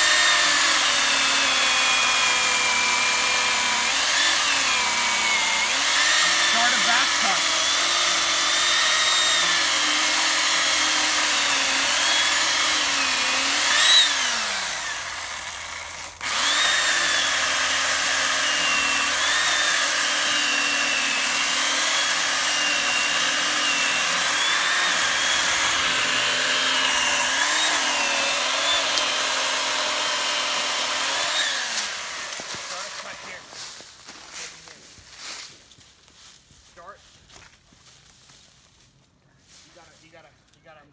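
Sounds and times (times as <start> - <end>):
electric chainsaw cutting wood: 0.0 - 33.6.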